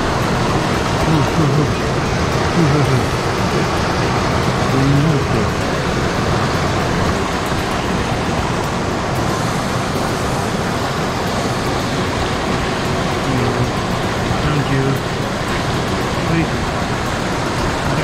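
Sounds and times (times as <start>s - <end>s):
stream rushing over stones: 0.0s - 18.0s.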